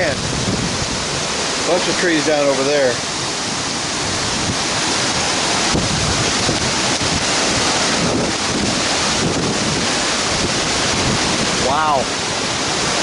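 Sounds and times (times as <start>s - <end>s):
driving rain: 0.0s - 13.0s
strong wind buffeting microphone: 0.0s - 13.0s.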